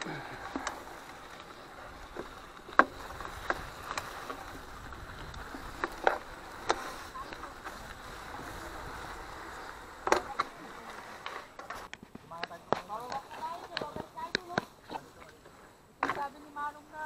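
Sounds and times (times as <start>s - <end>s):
mountain bike clattering: 0.0s - 15.1s.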